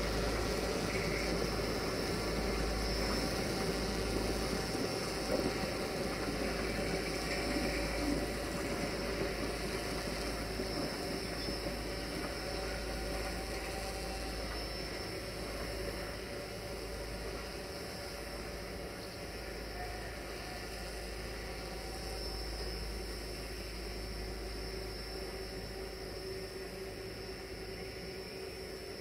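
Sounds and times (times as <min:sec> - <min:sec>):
train engine rumble with hiss: 0:00.0 - 0:29.0.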